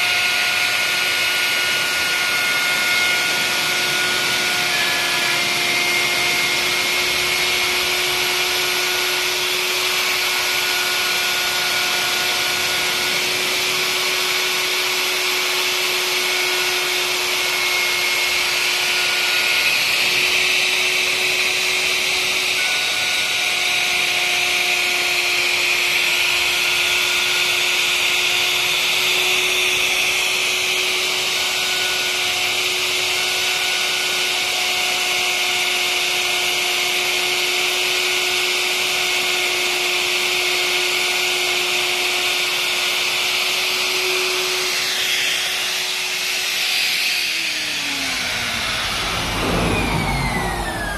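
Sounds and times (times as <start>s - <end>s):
router cutting wood: 0.0s - 50.9s.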